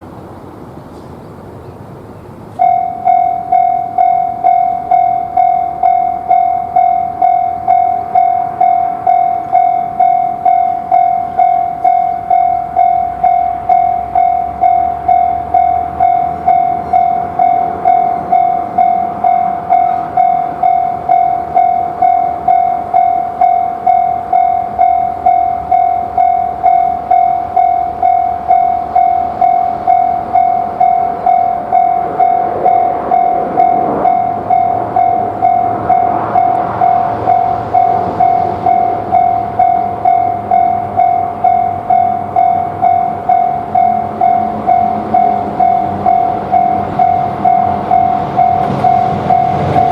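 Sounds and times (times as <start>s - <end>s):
level crossing bell ringing: 2.6s - 49.9s.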